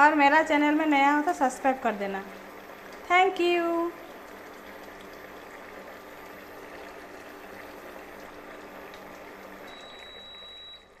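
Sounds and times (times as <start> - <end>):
curry bubbling and simmering: 0.9 - 11.0.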